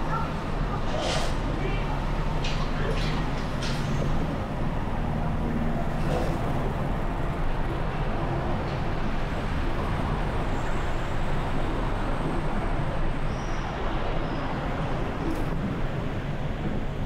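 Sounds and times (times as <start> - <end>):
traffic noise in road tunnel: 0.0 - 17.0.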